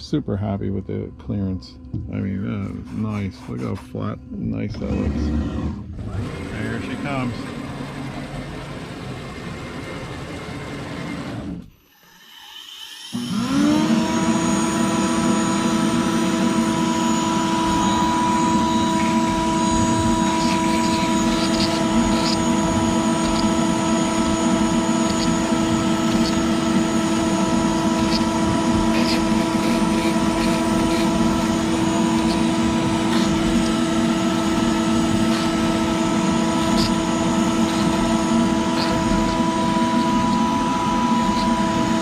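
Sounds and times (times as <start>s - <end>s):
router spindle whine: 0.0s - 42.0s
scratchy cutting sounds: 2.3s - 7.5s, 13.2s - 42.0s.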